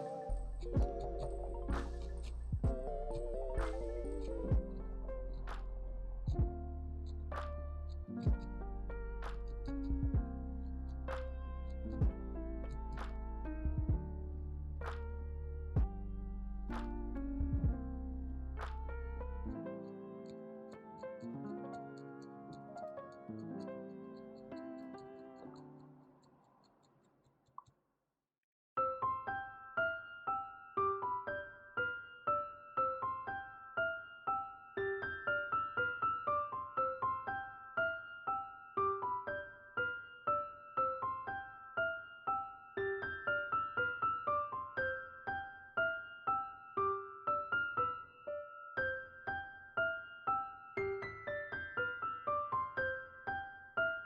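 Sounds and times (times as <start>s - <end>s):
gentle keyboard melody: 0.0s - 26.9s, 28.8s - 54.0s.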